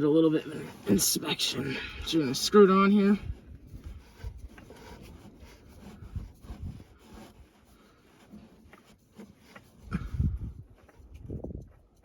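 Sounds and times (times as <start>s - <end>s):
faint rubbing: 0.0s - 12.0s.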